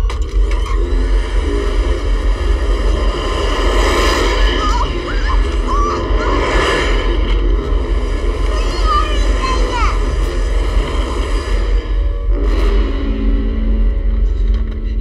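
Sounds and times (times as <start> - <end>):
deep rumbling drone: 0.0 - 15.0
noisy rattle: 0.0 - 15.0.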